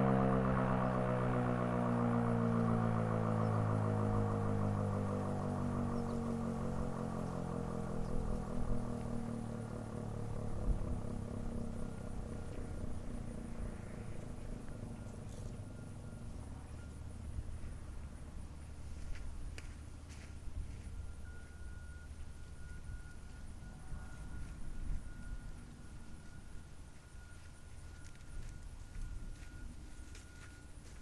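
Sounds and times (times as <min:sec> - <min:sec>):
warning siren winding down: 0:00.0 - 0:18.5, 0:20.7 - 0:31.0.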